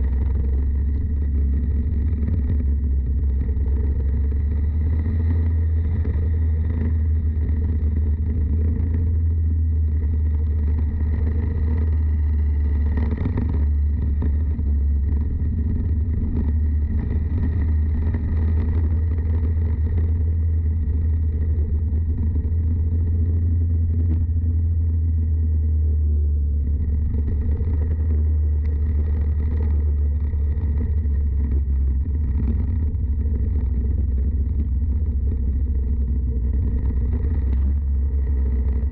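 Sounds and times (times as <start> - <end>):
go-kart engine rumble: 0.0 - 38.9.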